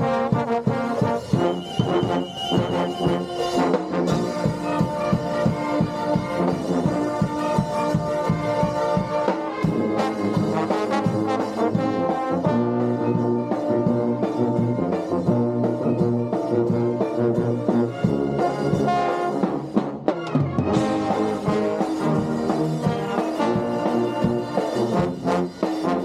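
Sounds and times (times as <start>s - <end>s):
brass band music: 0.0s - 26.0s.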